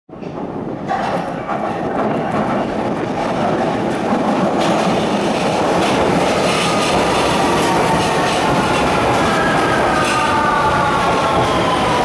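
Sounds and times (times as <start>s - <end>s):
metro train wheels rumbling: 0.1s - 12.0s.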